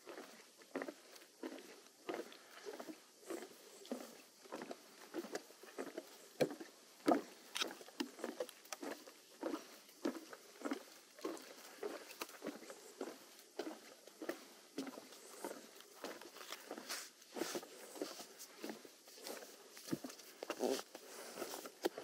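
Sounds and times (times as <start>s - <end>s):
footsteps on a trail: 0.0s - 22.0s.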